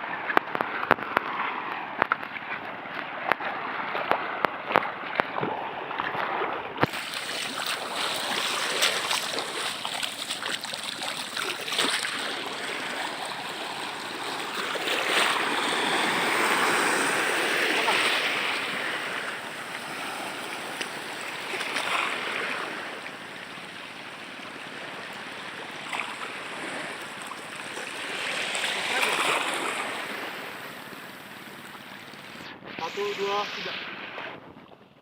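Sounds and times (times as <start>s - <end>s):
water rushing at shore: 0.0s - 35.0s.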